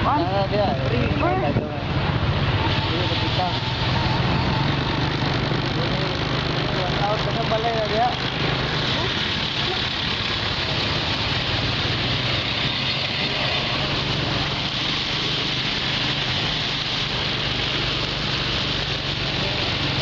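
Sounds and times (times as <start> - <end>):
vehicle engine drone: 0.0 - 20.0
wind and road noise: 0.0 - 20.0.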